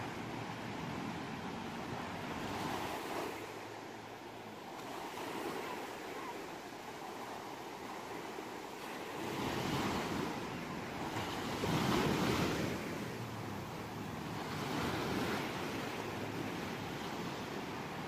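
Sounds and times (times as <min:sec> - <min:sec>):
sea waves washing onto shore: 0:00.0 - 0:18.0.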